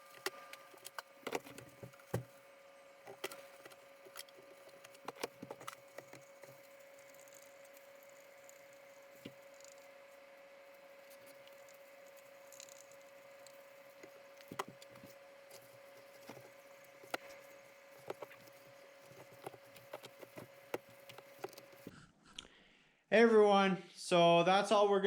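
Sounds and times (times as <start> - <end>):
thin steady hum: 0.0 - 22.6.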